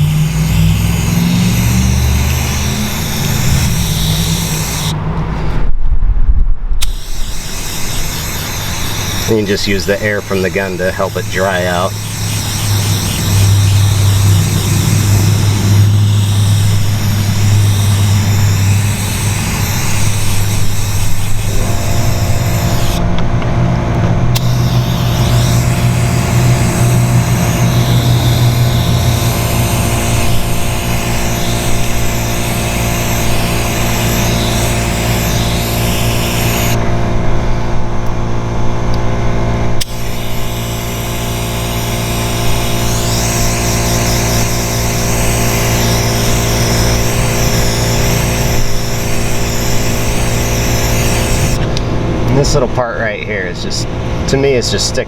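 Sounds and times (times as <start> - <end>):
spray gun air hissing: 0.0 - 5.1, 6.8 - 23.0, 24.4 - 37.0, 39.8 - 51.8
motor hum: 0.0 - 5.8, 6.8 - 55.0.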